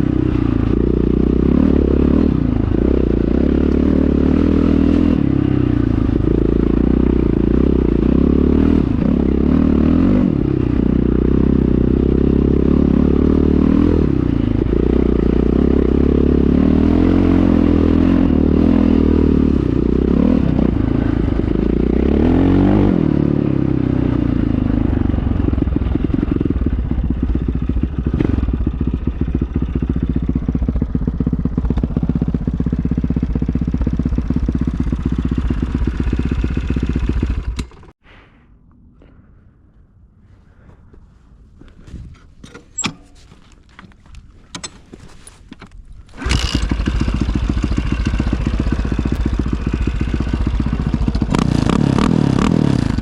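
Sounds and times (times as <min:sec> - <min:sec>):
motorcycle engine revving: 0:00.0 - 0:38.0, 0:46.0 - 0:53.0.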